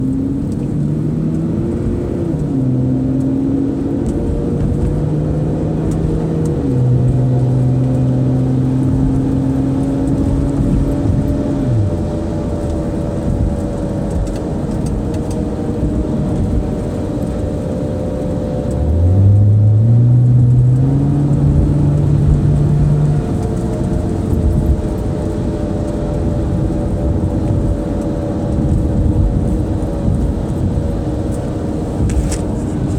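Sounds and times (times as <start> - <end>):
road noise: 0.0 - 32.9.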